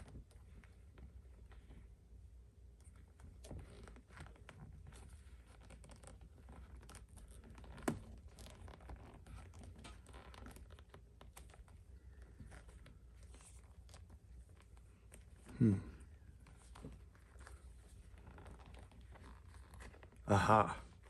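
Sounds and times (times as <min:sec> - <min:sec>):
leather lace scratching and rubbing: 0:02.7 - 0:15.5, 0:16.2 - 0:20.3.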